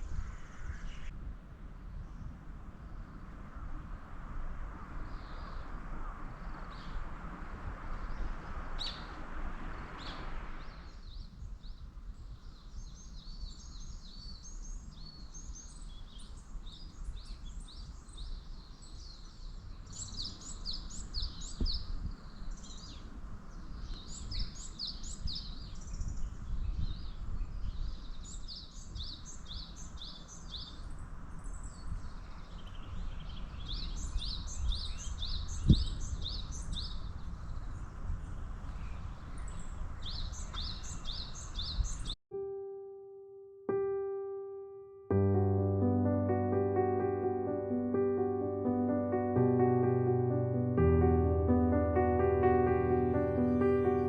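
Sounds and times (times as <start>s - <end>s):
songbirds chirping: 0.0s - 42.2s, 45.2s - 54.0s.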